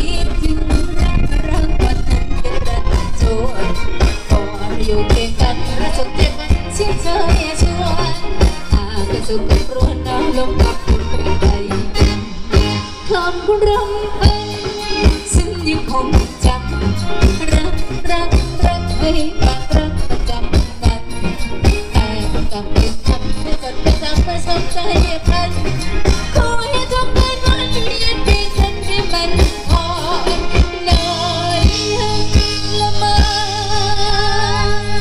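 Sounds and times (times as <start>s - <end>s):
driving drum beat: 0.0s - 35.0s
person singing: 0.0s - 35.0s.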